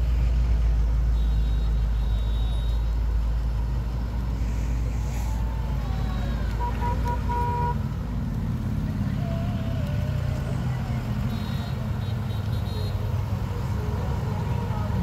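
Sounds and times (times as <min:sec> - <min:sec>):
cars driving slowly past: 0:00.0 - 0:15.0.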